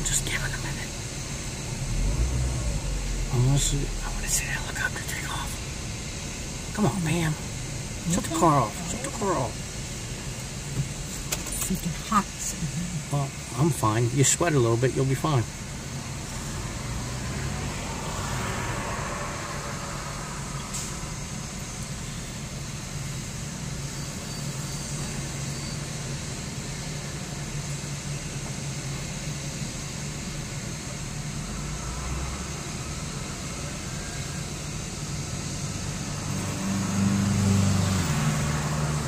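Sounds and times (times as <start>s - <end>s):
helicopter turbine engines running: 0.0s - 36.6s.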